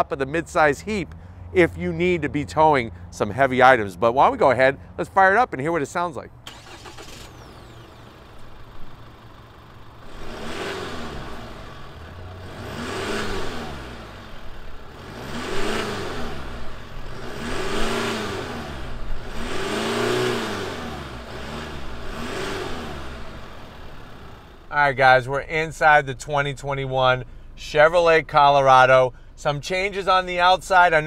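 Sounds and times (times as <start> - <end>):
diesel engine idling and revving: 0.0 - 31.0.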